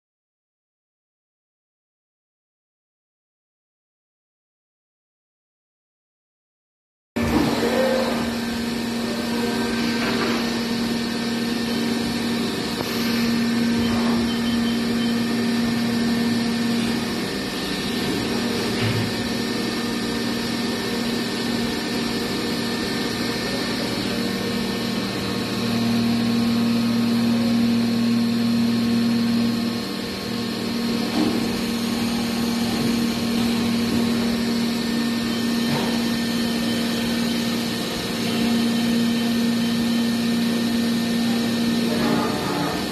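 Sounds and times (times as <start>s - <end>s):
machining centre hum and whine: 7.2s - 42.9s.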